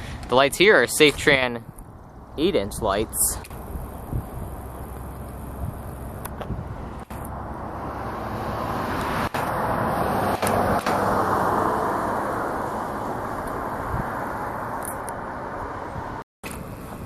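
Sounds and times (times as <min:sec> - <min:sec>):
vehicle tyre and road noise: 0:00.0 - 0:17.0.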